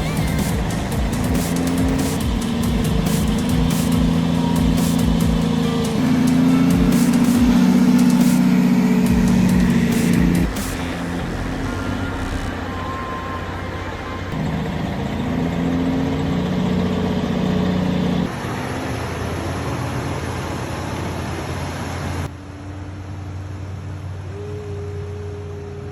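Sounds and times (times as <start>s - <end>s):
heavy machinery engines running: 0.0s - 25.9s.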